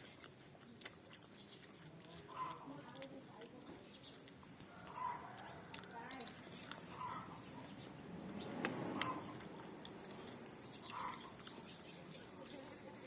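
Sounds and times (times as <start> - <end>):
chewing: 0.0 - 7.9, 8.6 - 13.0.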